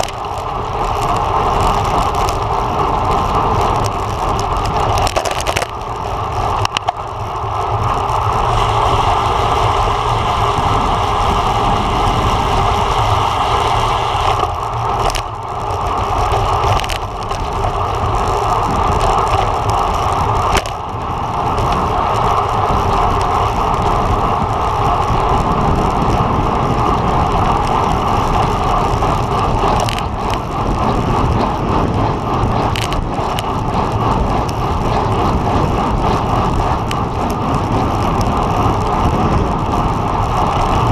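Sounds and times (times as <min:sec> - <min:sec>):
rushing wind noise: 0:00.0 - 0:40.9
tyre hum on pavement: 0:00.0 - 0:40.9.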